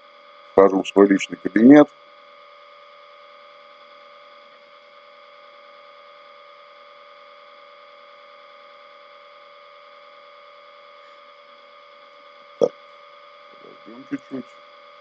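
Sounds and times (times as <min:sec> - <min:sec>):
electrical hum and whine: 0:00.0 - 0:15.0.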